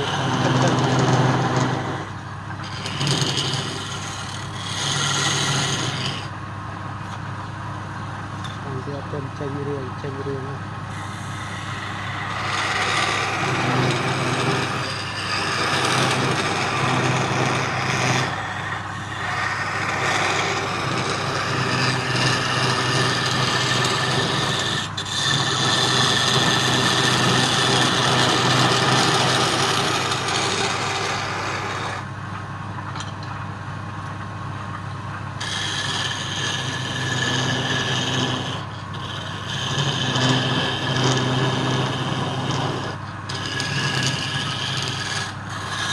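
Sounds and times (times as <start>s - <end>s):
tool scraping spinning wood: 0.0s - 6.4s, 8.4s - 32.2s, 35.3s - 45.9s
wood lathe humming: 0.0s - 6.4s, 8.4s - 32.1s, 35.4s - 45.9s.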